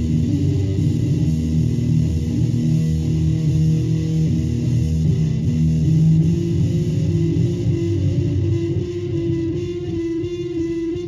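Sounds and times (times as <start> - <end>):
guitar music through loudspeaker: 0.0 - 11.0.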